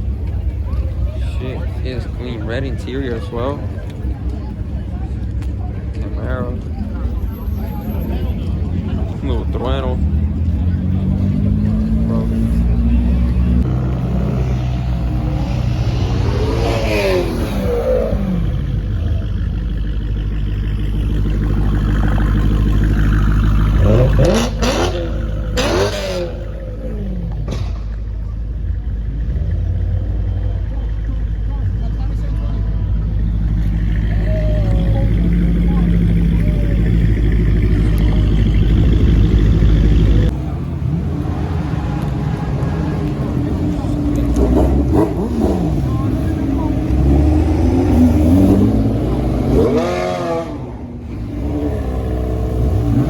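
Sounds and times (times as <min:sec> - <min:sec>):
car engine revving: 0:00.2 - 0:53.0.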